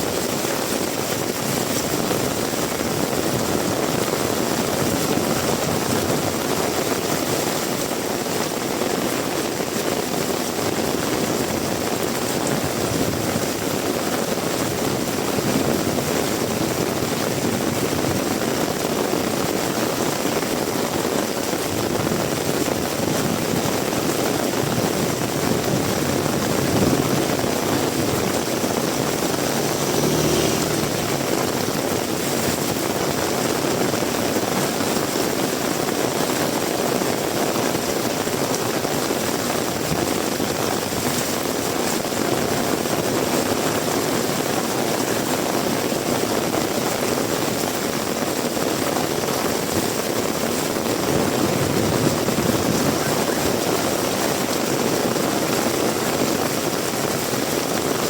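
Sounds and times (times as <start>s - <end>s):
heavy rain in strong wind: 0.0s - 58.0s.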